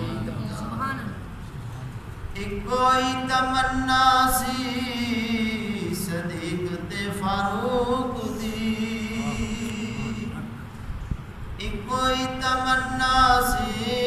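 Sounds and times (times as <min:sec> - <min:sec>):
man chanting unaccompanied: 0:00.0 - 0:01.3, 0:02.3 - 0:10.8, 0:11.6 - 0:14.0.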